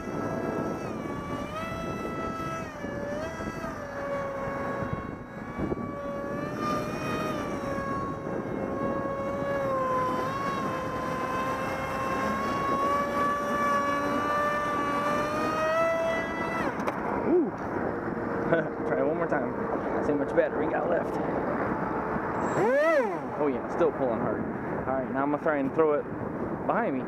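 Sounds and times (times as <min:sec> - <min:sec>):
electric motor and propeller whining: 0:00.0 - 0:27.0
wind on microphone: 0:00.0 - 0:27.0.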